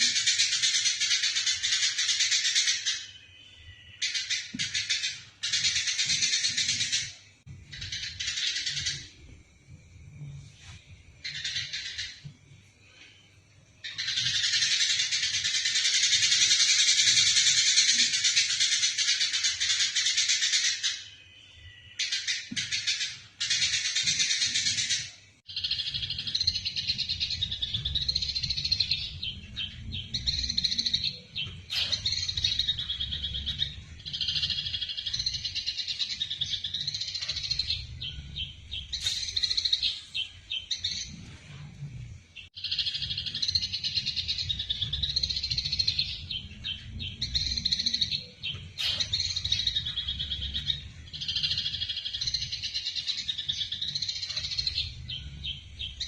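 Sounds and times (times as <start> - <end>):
sparrows chattering: 0.0 - 9.2, 11.2 - 12.3, 13.8 - 41.3, 42.4 - 56.0.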